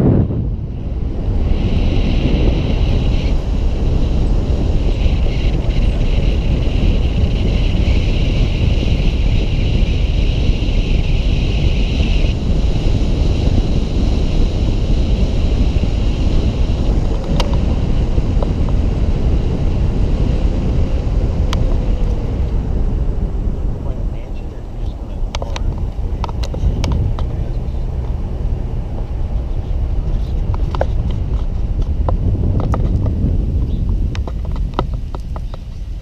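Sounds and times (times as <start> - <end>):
car road rumble: 0.0 - 36.0
wind rush on microphone: 0.0 - 36.0.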